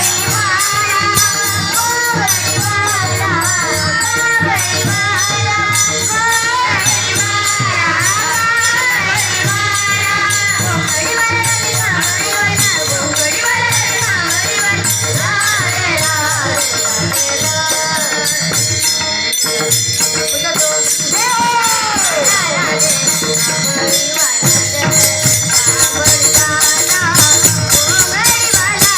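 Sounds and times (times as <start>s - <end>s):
jingling hand percussion: 0.0s - 28.9s
steady drum beat: 0.0s - 28.9s
woman singing devotional song: 0.0s - 28.9s.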